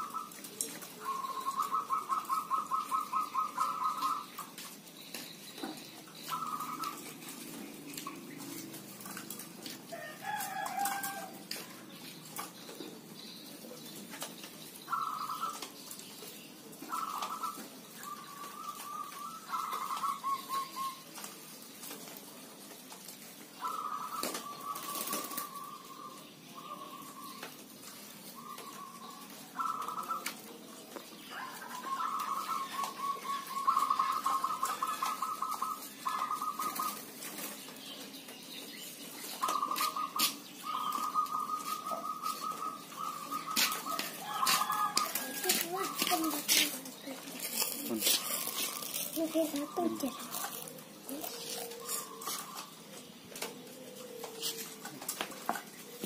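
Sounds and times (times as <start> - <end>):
doves cooing: 0.0 - 56.0.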